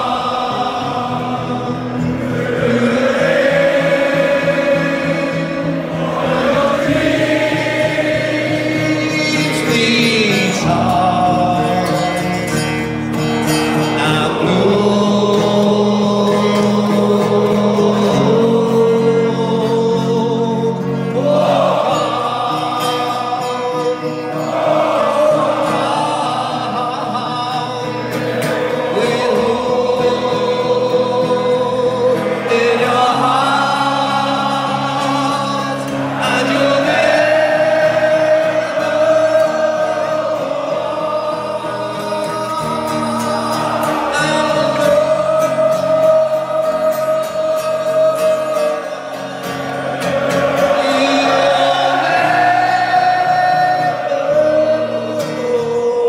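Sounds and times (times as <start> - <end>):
crowd singing a chant: 0.0 - 56.0
music: 0.0 - 56.0.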